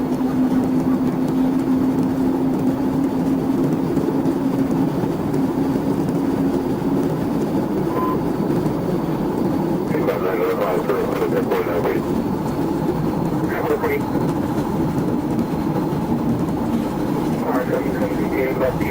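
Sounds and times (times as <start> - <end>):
car road and engine rumble: 0.0 - 18.9.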